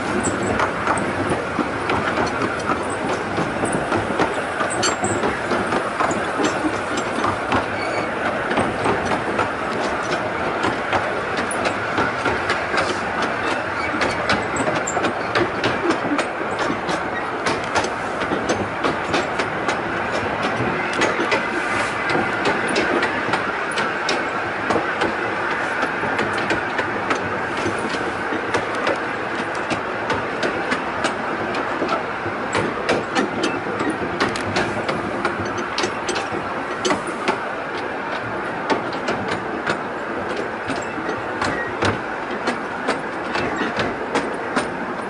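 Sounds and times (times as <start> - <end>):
miniature train wheels rumbling: 0.0 - 45.0.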